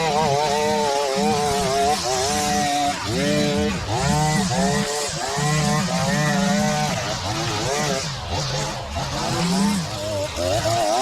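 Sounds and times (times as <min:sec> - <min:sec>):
line trimmer engine revving: 0:00.0 - 0:11.0.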